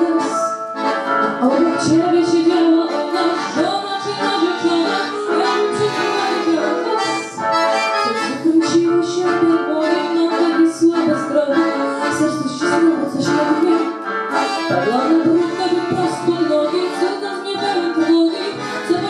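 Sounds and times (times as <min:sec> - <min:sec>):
woman singing into microphone: 0:00.0 - 0:00.6, 0:01.4 - 0:19.0
accordion: 0:00.0 - 0:19.0.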